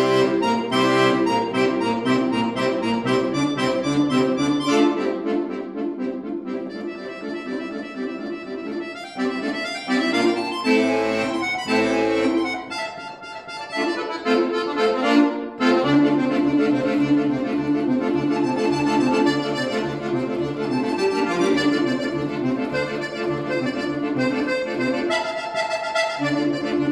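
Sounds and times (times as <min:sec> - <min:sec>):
accordion playing fast runs: 0:00.0 - 0:26.9.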